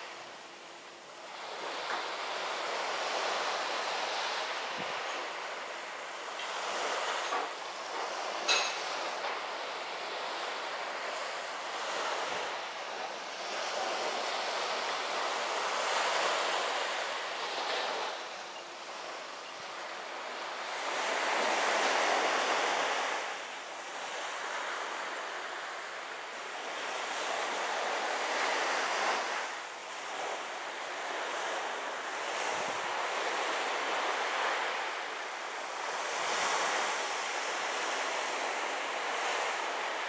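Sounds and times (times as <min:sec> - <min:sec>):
sea waves washing on shore: 0:00.0 - 0:40.0.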